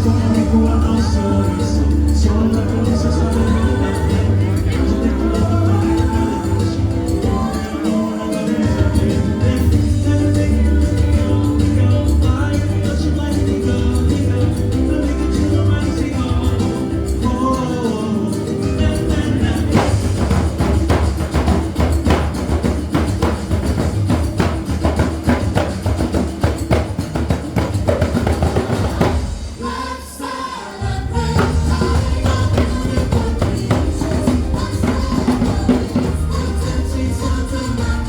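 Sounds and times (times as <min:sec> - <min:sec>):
person singing: 0:00.0 - 0:23.8, 0:26.7 - 0:38.0
tambourine: 0:00.0 - 0:29.7, 0:31.4 - 0:38.0
samba percussion beat: 0:00.0 - 0:38.0.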